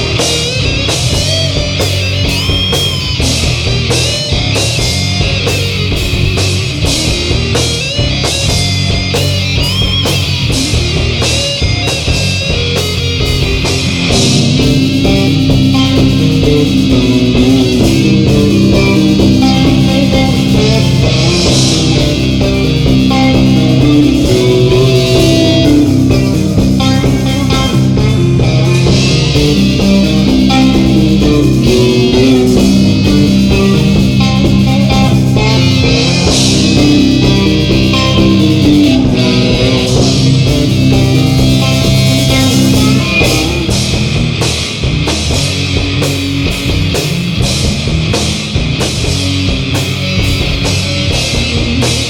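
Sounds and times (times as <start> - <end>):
rock band playing: 0.0 - 52.0.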